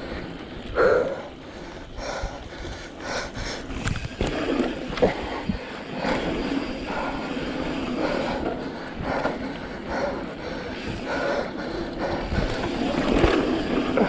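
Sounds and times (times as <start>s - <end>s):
bike tyre noise on dirt: 0.0s - 14.0s
bike knocking and rattling: 2.1s - 14.0s.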